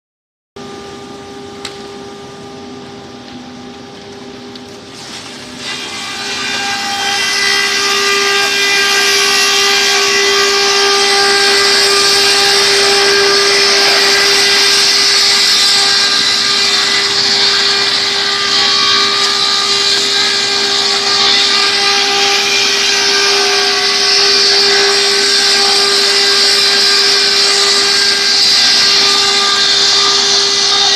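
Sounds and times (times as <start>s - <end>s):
sawdust mill grinding wood: 4.9s - 30.9s.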